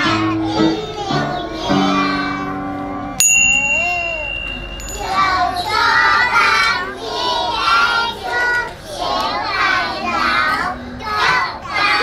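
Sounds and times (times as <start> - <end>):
children singing carol: 0.0 - 3.0, 4.9 - 12.0.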